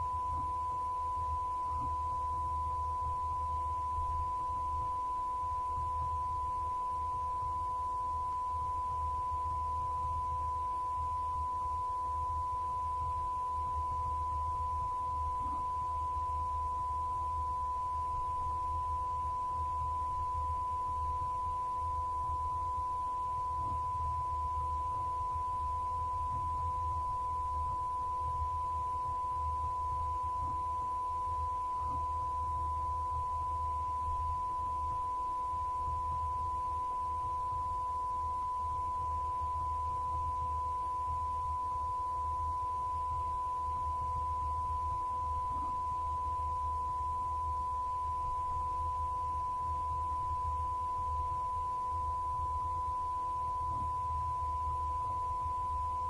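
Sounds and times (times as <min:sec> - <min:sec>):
faint lower tone: 0:00.0 - 0:56.0
low hum: 0:00.0 - 0:56.0
steady pure tone: 0:00.0 - 0:56.0.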